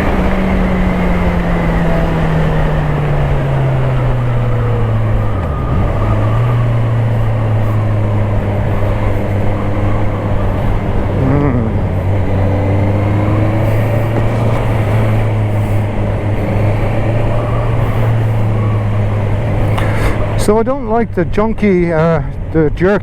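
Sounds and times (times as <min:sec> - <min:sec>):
motorcycle engine running: 0:00.0 - 0:23.0
road and wind rush: 0:00.0 - 0:23.0.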